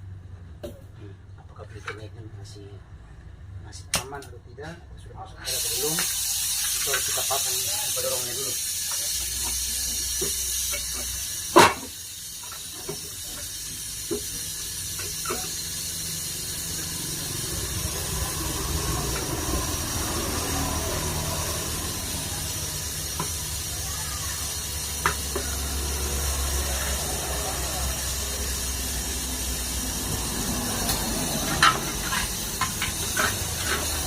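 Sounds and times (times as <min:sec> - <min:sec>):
steady hiss: 0:05.5 - 0:34.0.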